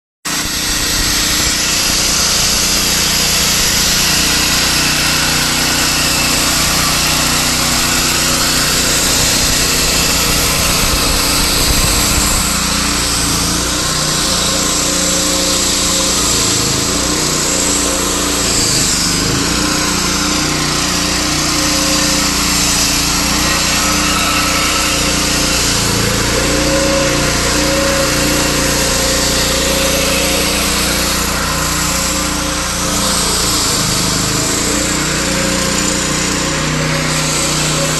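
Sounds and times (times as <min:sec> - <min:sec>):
concrete saw cutting: 0:00.2 - 0:37.9.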